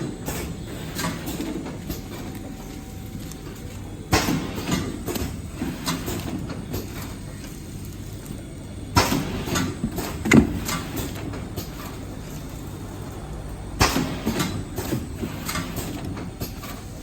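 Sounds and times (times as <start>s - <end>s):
machine clicking and clattering: 0.0s - 17.0s
packaging machine humming: 0.0s - 17.0s.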